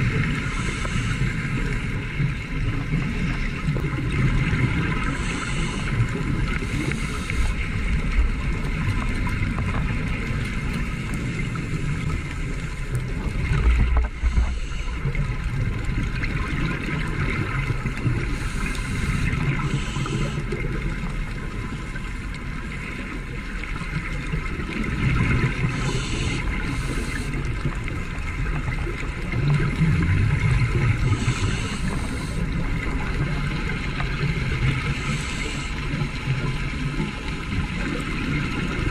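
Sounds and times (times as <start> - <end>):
underwater water rumble: 0.0 - 38.9.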